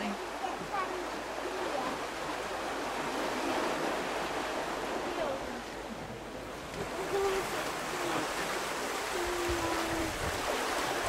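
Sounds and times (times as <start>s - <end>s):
churning water rushing: 0.0s - 11.0s.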